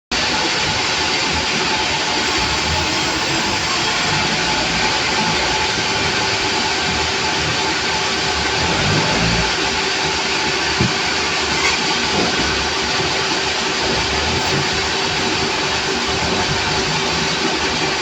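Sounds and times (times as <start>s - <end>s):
sawmill machinery running: 0.1s - 18.0s
constant hum: 0.4s - 18.0s.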